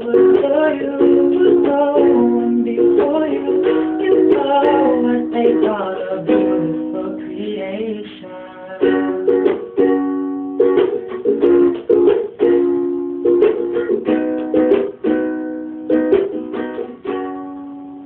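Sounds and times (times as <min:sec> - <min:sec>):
ukulele strumming chords: 0:00.0 - 0:18.0.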